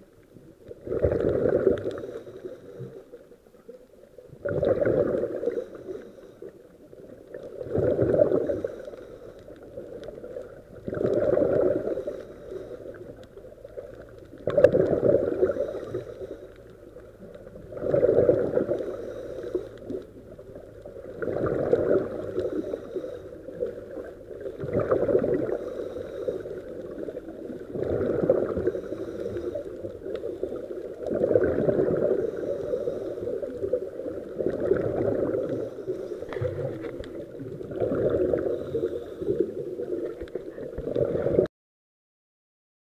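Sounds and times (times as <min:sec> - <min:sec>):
exhaled bubbles underwater: 0:00.0 - 0:41.5.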